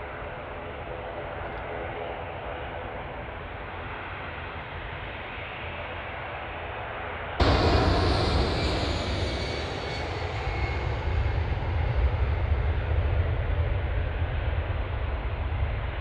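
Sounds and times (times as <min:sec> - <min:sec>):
jet engines at take-off power: 0:00.0 - 0:16.0.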